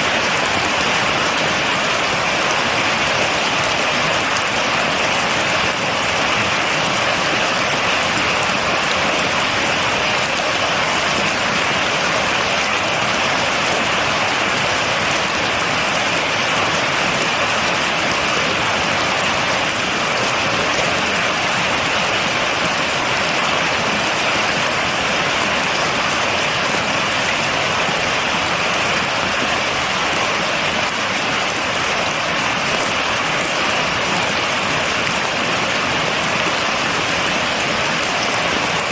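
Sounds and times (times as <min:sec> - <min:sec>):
raindrops pattering on surface: 0:00.0 - 0:38.9
steady rain hiss: 0:00.0 - 0:38.9.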